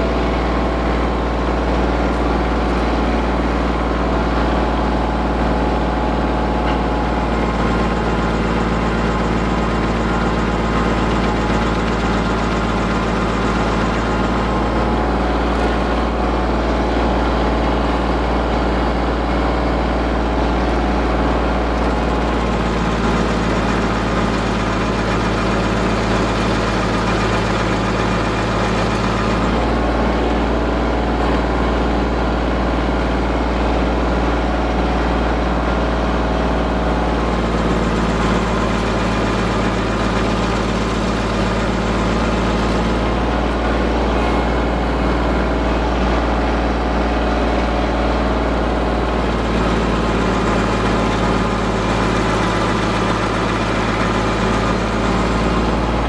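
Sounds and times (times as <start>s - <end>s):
stump grinder cutting wood: 0.0s - 31.7s, 36.8s - 56.0s
tractor engine running: 0.0s - 56.0s.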